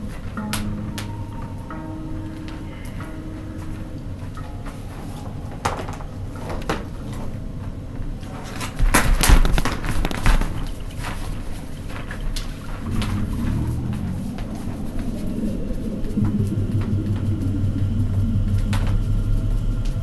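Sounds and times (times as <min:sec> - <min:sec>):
low rumble: 0:00.0 - 0:09.2, 0:10.0 - 0:20.0
hula hoops knocking: 0:00.0 - 0:20.0.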